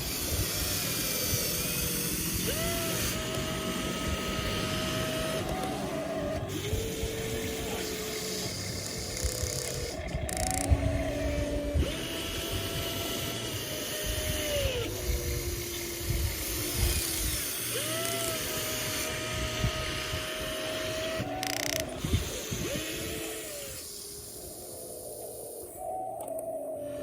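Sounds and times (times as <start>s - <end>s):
small electric motors whining: 0.0s - 27.0s.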